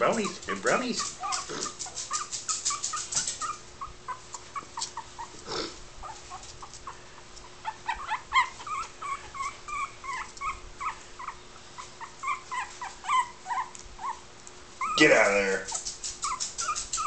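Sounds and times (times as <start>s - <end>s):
puppies whimpering: 0.0s - 5.4s, 6.0s - 17.0s.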